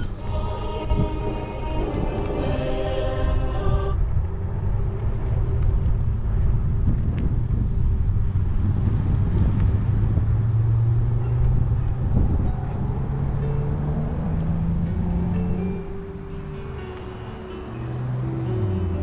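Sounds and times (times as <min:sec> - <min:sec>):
wind on microphone: 0:00.0 - 0:15.8
low hum: 0:00.0 - 0:17.0.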